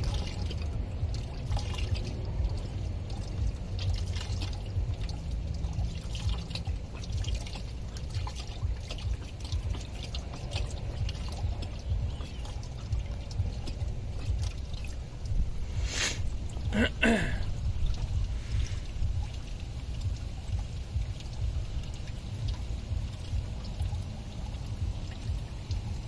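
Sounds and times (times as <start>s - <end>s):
coolant trickling and splashing: 0.0s - 26.0s
low background rumble: 0.0s - 26.0s.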